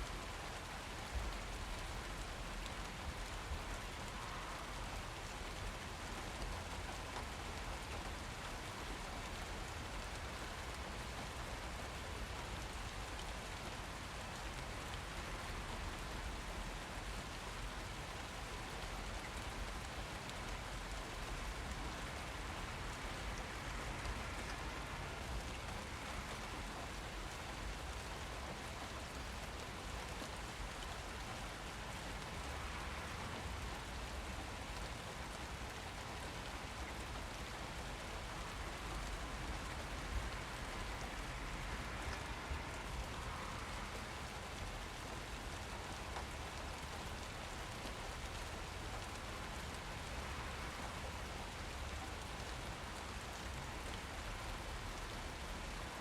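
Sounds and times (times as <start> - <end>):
rain on hard surfaces: 0.0 - 56.0.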